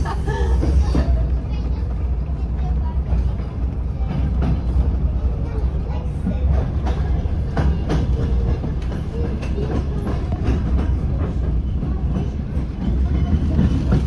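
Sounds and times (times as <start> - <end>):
train low rumble: 0.0 - 14.0
wheels clacking over rail joints: 0.0 - 14.0.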